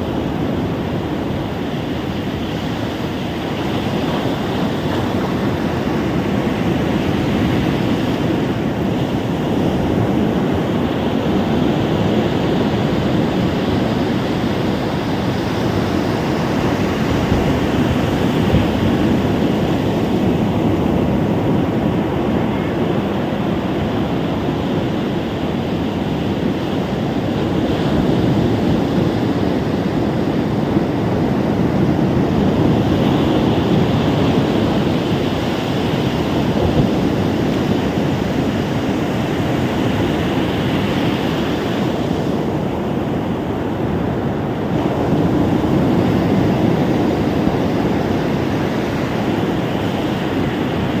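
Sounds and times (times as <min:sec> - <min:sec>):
ocean waves washing onto beach: 0:00.0 - 0:51.0.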